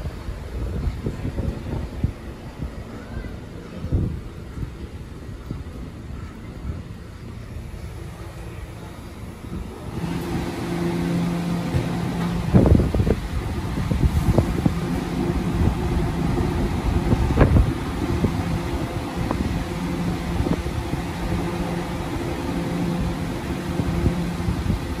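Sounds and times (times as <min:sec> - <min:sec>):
train electrical hum: 0:00.0 - 0:25.0.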